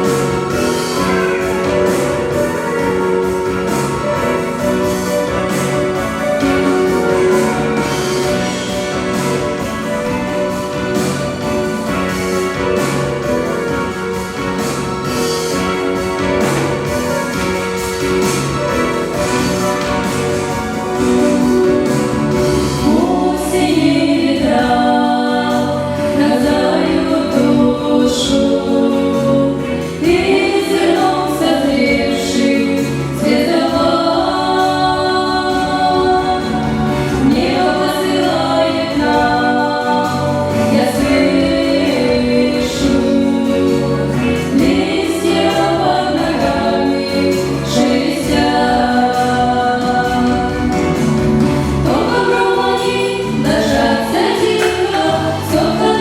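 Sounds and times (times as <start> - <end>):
group singing together: 0.0 - 56.0.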